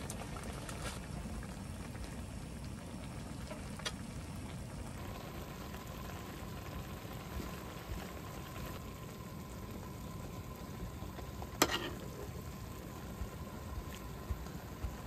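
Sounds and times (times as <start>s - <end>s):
broth bubbling in a pot: 0.0s - 15.0s
faint steady tone: 0.0s - 15.0s.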